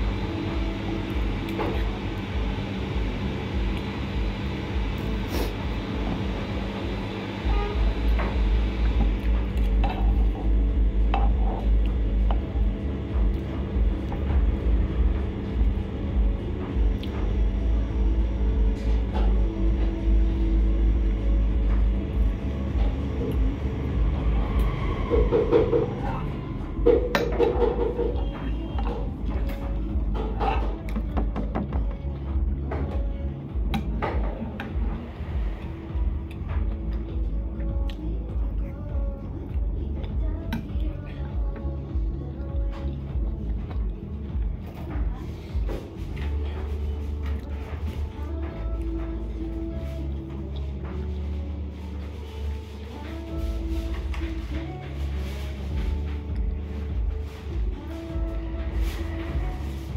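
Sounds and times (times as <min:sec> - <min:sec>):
steady low rumble: 0:00.0 - 0:31.2, 0:31.8 - 0:59.9.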